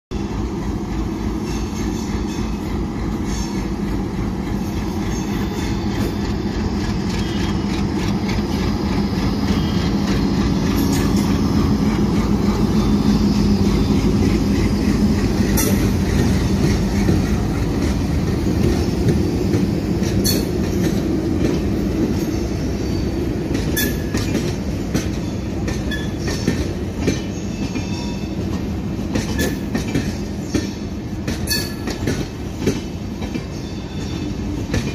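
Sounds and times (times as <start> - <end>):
train coaches rumbling: 0.1 - 34.9
wheels clicking over rail joints: 1.4 - 12.9, 13.8 - 22.4, 23.4 - 34.9.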